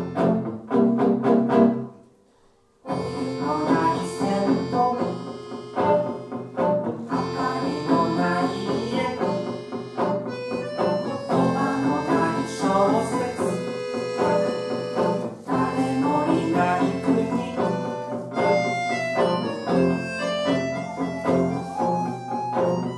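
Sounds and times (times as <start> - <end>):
live band playing lively tune: 2.9 - 22.9.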